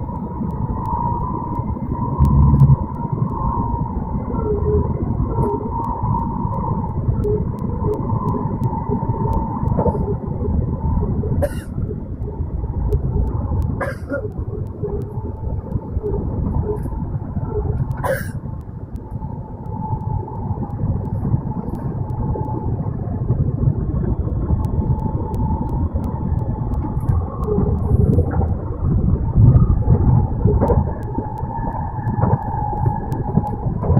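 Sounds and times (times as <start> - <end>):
faint whine: 0.0 - 33.9
train running rumble: 0.0 - 33.9.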